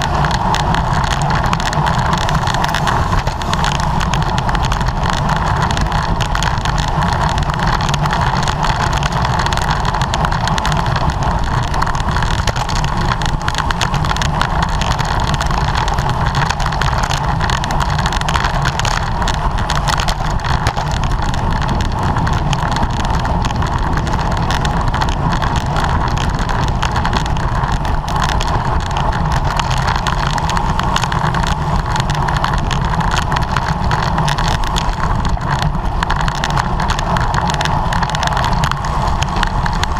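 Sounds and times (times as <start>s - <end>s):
bicycle tyre and drivetrain noise: 0.0s - 39.9s
wind rushing over microphone: 0.0s - 39.9s.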